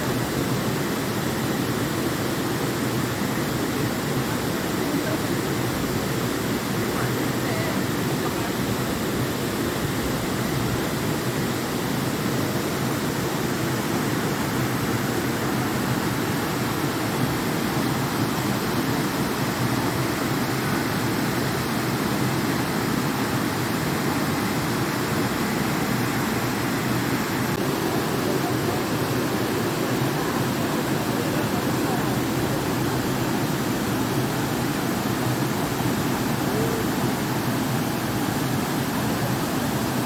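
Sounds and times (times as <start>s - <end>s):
mountain stream rushing: 0.0s - 40.0s.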